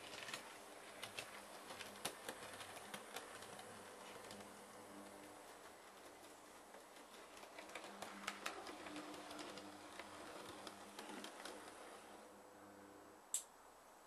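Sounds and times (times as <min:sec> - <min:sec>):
model train clicks: 0:00.0 - 0:12.1.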